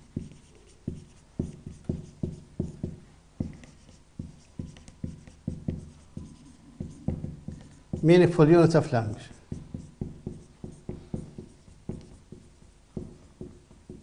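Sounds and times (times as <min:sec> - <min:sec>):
marker writing on whiteboard: 0:00.0 - 0:08.4, 0:09.1 - 0:14.0.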